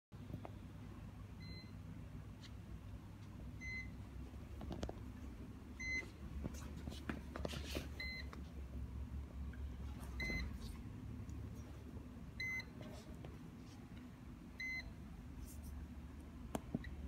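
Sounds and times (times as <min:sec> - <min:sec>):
low steady hum: 0:00.2 - 0:17.0.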